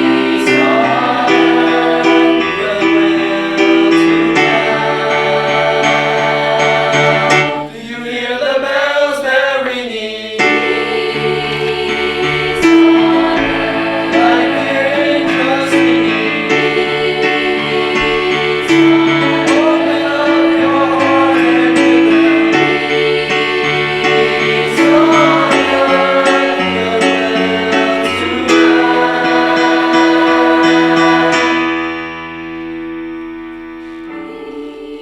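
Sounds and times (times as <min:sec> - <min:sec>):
instrumental accompaniment: 0:00.0 - 0:07.9, 0:10.4 - 0:35.0
choir singing held notes: 0:00.0 - 0:35.0.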